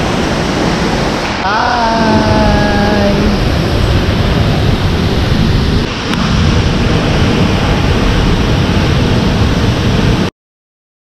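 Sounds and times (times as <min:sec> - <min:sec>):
waterfall roaring: 0:00.0 - 0:10.3
wind rumbling on microphone: 0:00.0 - 0:10.3.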